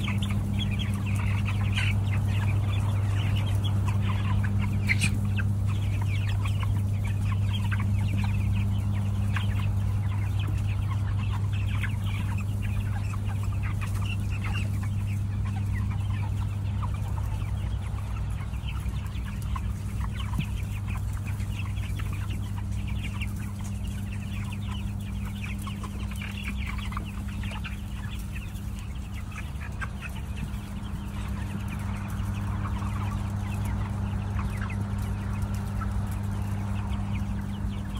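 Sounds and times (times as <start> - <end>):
chickens clucking: 0.0 - 37.9
steady low hum: 0.0 - 37.9.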